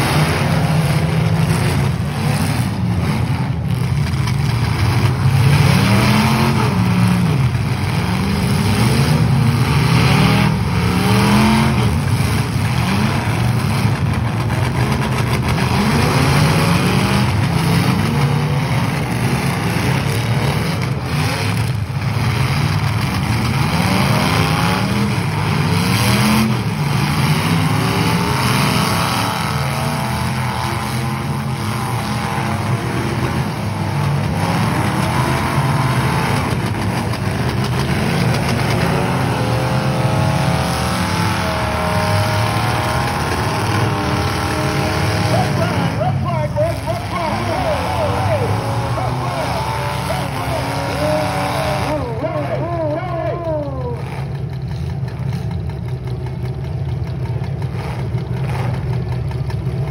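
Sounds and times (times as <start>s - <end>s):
car engines revving hard: 0.0s - 59.9s.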